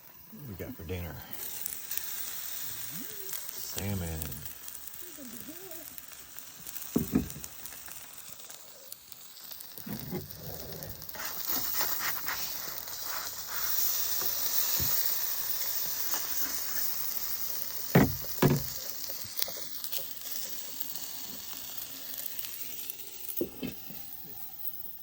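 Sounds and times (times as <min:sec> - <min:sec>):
salmon sizzling in a frying pan: 0:00.0 - 0:25.0.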